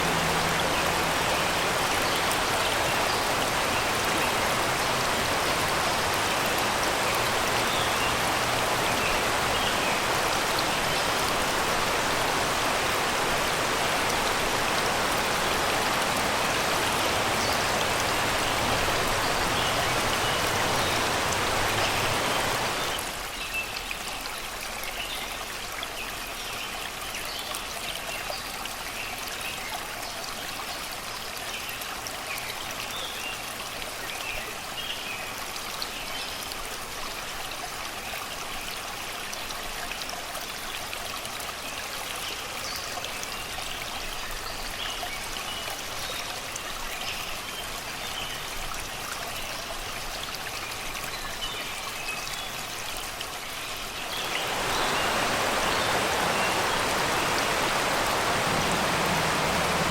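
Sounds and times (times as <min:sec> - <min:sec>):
birds singing faintly: 0:00.0 - 0:36.6, 0:41.5 - 0:59.9
river flowing over rocks: 0:00.0 - 0:59.9.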